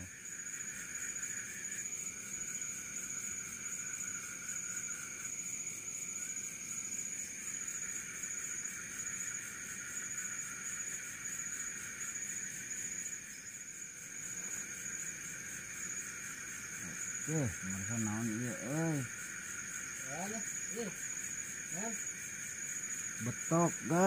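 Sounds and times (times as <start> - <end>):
insects trilling: 0.0 - 24.0
low insect trill: 0.0 - 24.0.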